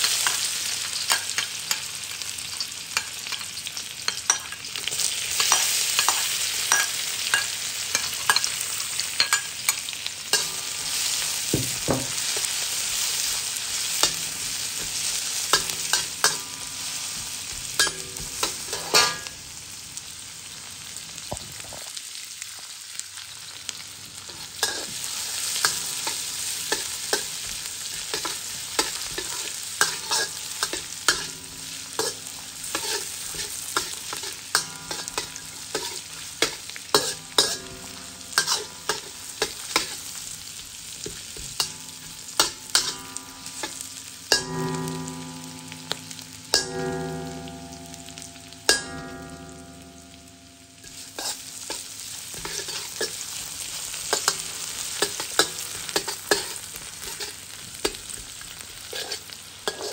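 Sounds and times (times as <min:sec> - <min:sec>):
aromatics sizzling in hot oil: 0:00.0 - 0:59.9
metal spatula scraping wok: 0:04.1 - 0:19.4, 0:24.2 - 0:40.4, 0:41.0 - 0:59.9.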